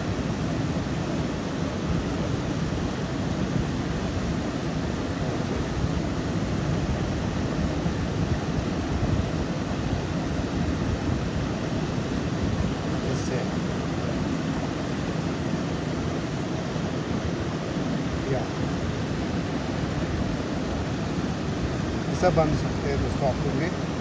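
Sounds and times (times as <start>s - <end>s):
fast-flowing river rushing: 0.0s - 24.0s.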